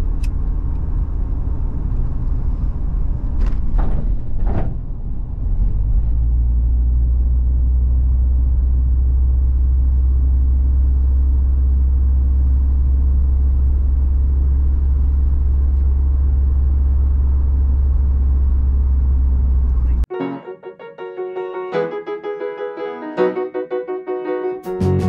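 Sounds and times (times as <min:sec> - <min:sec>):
car engine and tyre noise: 0:00.0 - 0:20.1.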